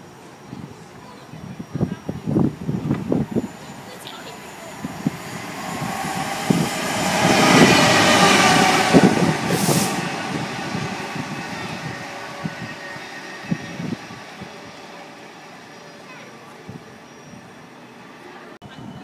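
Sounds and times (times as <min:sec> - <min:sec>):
diesel locomotive passing: 0:00.2 - 0:19.0
train wheel noise: 0:00.7 - 0:19.0.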